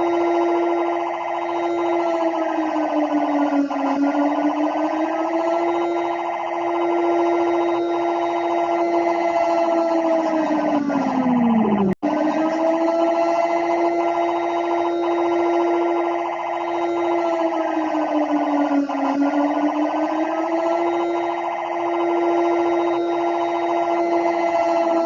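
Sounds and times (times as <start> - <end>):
emergency siren wailing: 0.0 - 25.0.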